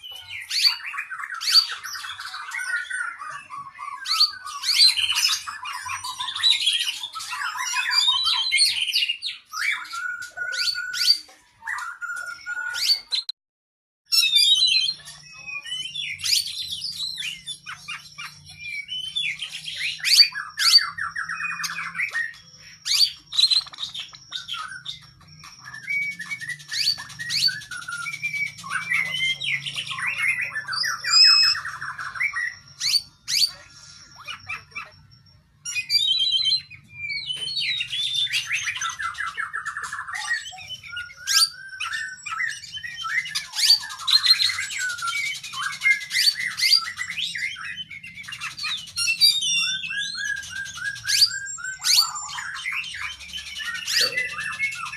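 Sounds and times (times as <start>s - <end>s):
bird singing whistles and trills: 0.0s - 13.3s, 14.1s - 54.9s.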